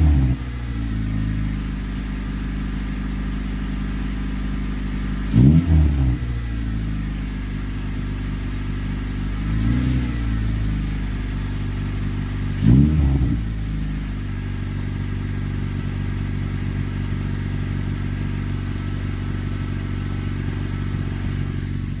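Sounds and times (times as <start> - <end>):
car exhaust idling: 0.0 - 22.0
engine throttle blips: 0.0 - 22.0.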